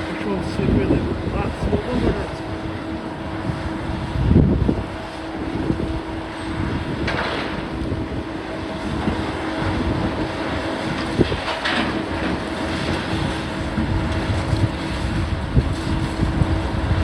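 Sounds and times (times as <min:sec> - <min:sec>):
demolition machinery droning: 0:00.0 - 0:17.0.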